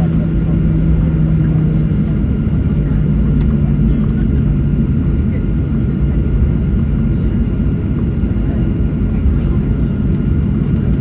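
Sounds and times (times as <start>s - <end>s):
airliner engines at taxi power: 0.0s - 11.0s.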